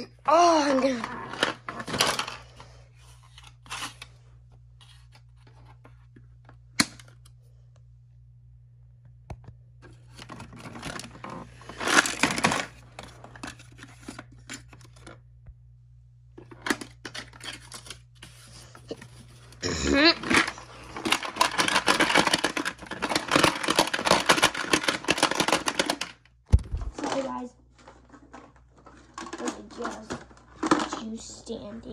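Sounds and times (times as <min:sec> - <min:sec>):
plastic toys rustling and scraping: 0:00.0 - 0:06.2, 0:09.8 - 0:15.2, 0:16.3 - 0:31.9.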